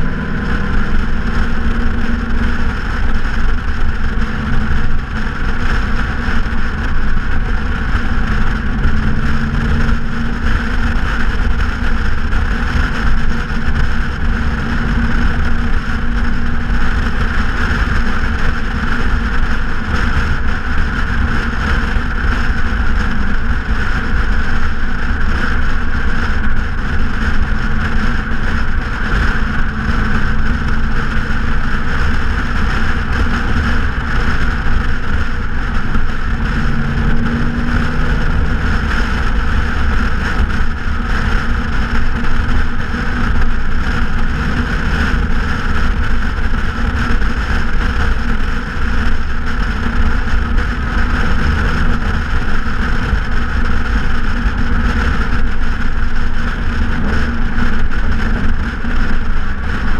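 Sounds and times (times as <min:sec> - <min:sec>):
car exhaust drone: 0:00.0 - 0:59.9
wind and road noise: 0:00.0 - 0:59.9.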